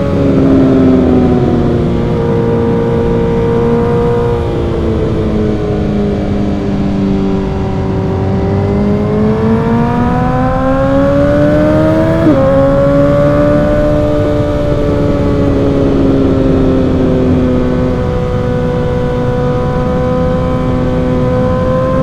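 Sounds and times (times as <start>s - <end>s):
motorcycle engine accelerating: 0.0s - 22.0s
wind and road noise: 0.0s - 22.0s.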